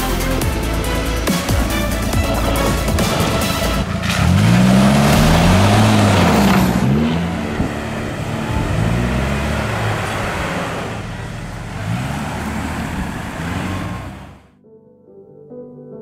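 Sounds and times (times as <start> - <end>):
suv engines revving: 0.0 - 14.5.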